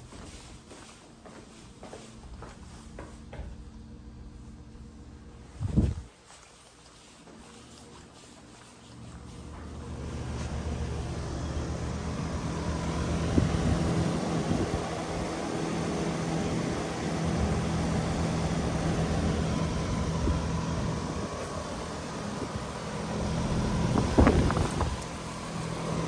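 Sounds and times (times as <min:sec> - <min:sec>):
condenser fan rushing: 0:00.0 - 0:26.0
heat pump compressor hum: 0:00.0 - 0:26.0.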